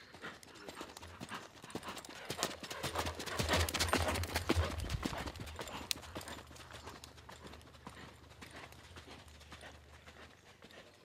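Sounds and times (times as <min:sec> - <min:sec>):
horse hoofbeats on sand: 0:00.0 - 0:11.0.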